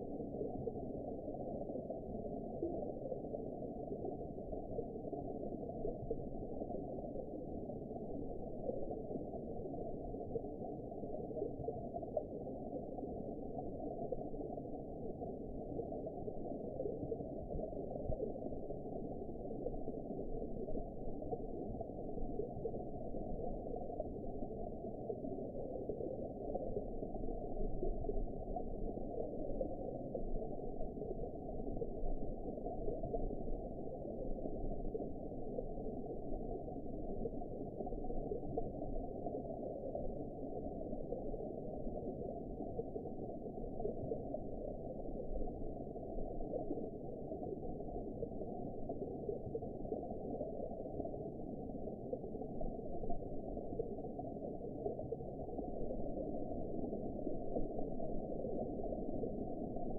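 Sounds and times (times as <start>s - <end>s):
muffled underwater rumble: 0.0s - 59.9s.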